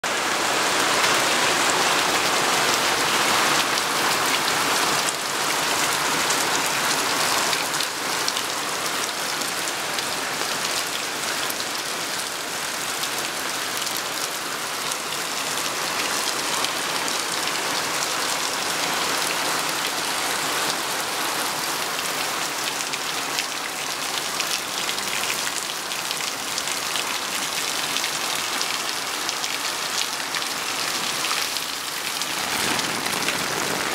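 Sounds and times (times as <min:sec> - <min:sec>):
heavy rain on patio: 0:00.0 - 0:33.9.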